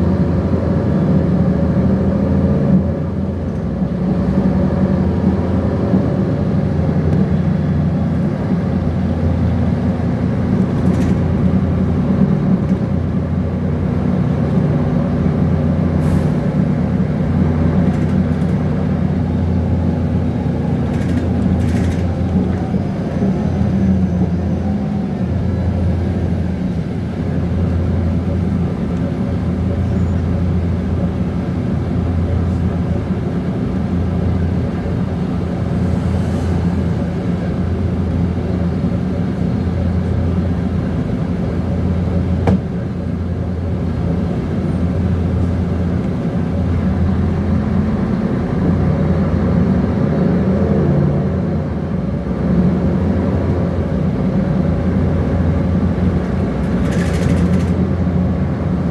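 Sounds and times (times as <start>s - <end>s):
bus diesel engine droning: 0.0s - 58.9s.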